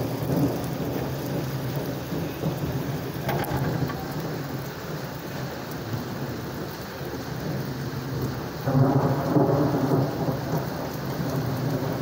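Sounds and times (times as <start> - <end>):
heavy rain on paved road: 0.0 - 12.0
low rumble of thunder: 0.0 - 12.0.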